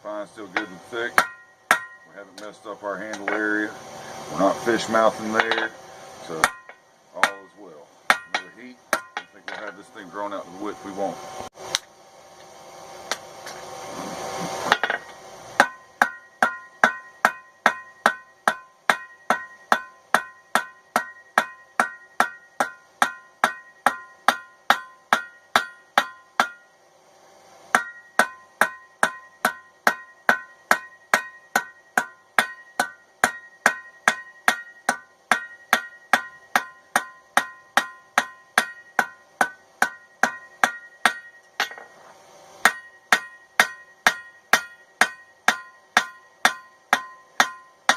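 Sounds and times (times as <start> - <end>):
hammer striking metal on anvil: 0.4 - 3.7, 4.6 - 10.0, 14.6 - 26.7, 27.7 - 42.0, 42.6 - 47.9.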